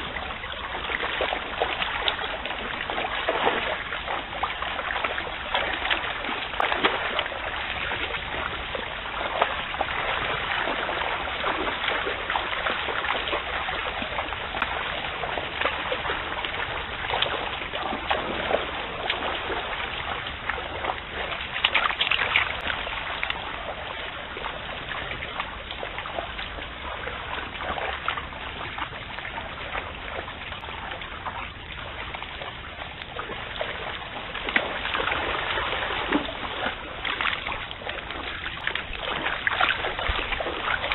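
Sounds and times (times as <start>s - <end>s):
running water: 0.0s - 40.9s
water splashing around legs: 0.0s - 40.9s.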